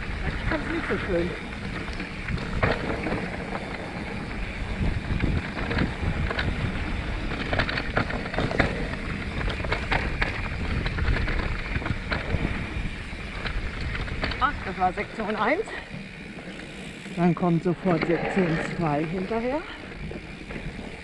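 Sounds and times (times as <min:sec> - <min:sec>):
wind noise on microphone: 0:00.0 - 0:17.1
bike clicks and rattles: 0:00.0 - 0:21.0
tyre noise on dirt: 0:00.2 - 0:21.0.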